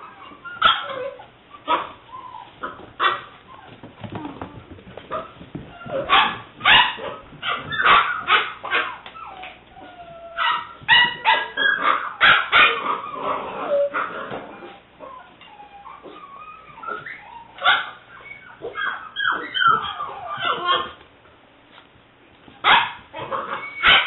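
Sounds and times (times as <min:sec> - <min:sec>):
puppy barking and yipping: 0:00.0 - 0:03.7, 0:05.1 - 0:21.0, 0:22.6 - 0:24.0
puppy whining: 0:00.0 - 0:21.0, 0:22.5 - 0:24.0.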